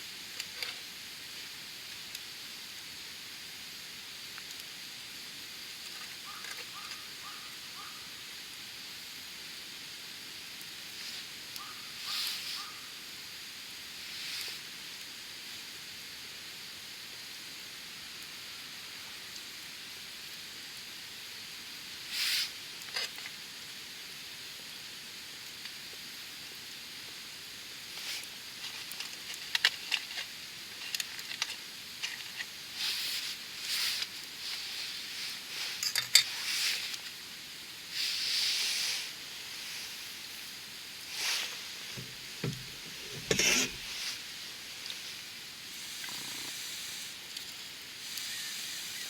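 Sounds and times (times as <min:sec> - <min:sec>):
fire crackles and pops: 0:00.0 - 0:06.7, 0:08.7 - 0:11.7, 0:13.0 - 0:18.4, 0:19.2 - 0:48.3
campfire hissing: 0:00.0 - 0:49.0.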